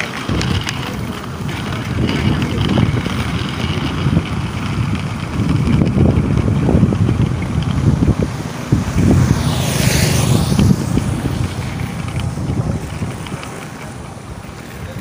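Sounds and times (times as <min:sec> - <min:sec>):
motorcycle passing by: 0:00.0 - 0:15.0
wind buffeting microphone: 0:00.0 - 0:15.0.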